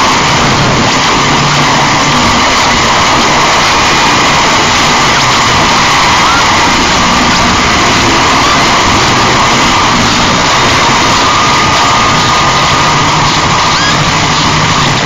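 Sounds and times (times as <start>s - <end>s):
distorted static noise: 0.0s - 15.0s.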